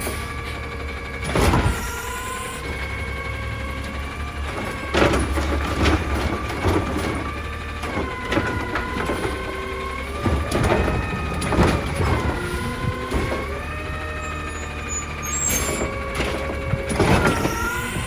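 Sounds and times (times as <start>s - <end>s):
clunks and knocks of trash: 0.0s - 18.0s
diesel engine running: 0.0s - 18.0s
hydraulic whine: 0.0s - 18.0s.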